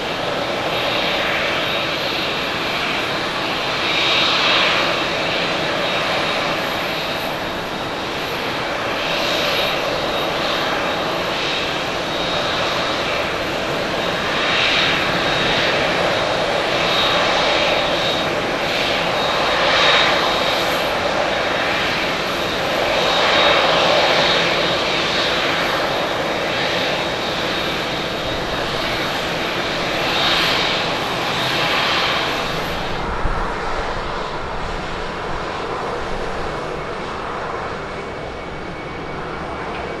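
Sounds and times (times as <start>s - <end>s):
jet engines rushing: 0.0s - 40.0s
jet engines taxiing: 0.0s - 40.0s.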